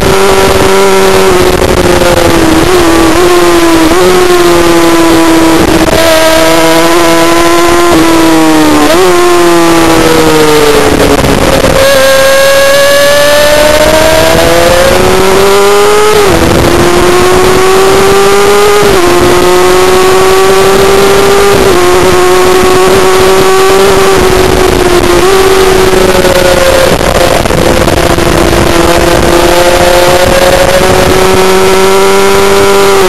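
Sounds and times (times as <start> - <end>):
motorcycle engine accelerating: 0.0 - 33.0
wind rushing on microphone: 0.0 - 33.0.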